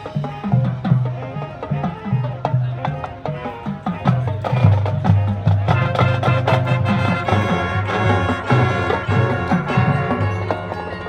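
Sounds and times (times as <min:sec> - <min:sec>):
marching band playing: 0:00.0 - 0:11.0.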